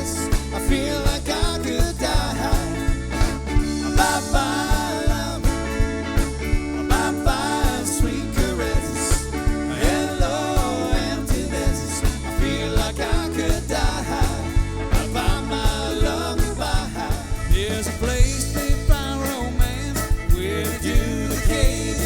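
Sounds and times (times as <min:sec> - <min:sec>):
person singing: 0:00.0 - 0:05.9, 0:06.7 - 0:22.0
band playing bass and drums: 0:00.0 - 0:22.0.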